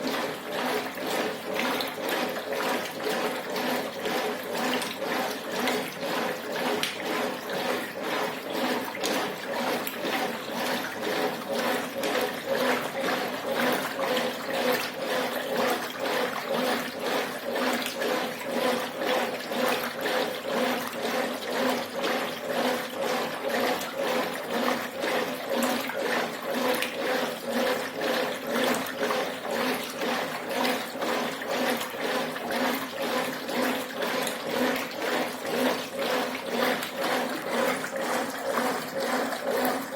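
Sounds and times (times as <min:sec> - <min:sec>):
washing machine motor hum: 0:00.0 - 0:39.9
water and laundry sloshing: 0:00.0 - 0:39.9.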